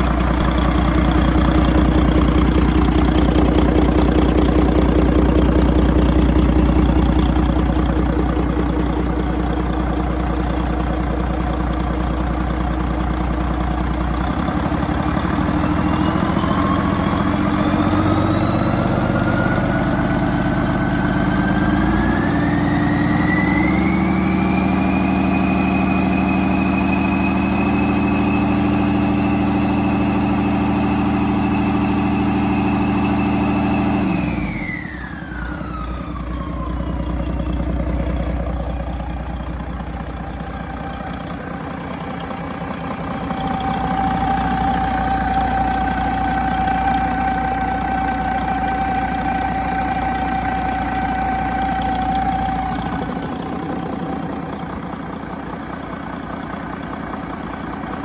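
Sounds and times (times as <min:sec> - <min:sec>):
diesel engine running: 0:00.0 - 0:58.0
high engine whine: 0:00.0 - 0:58.0.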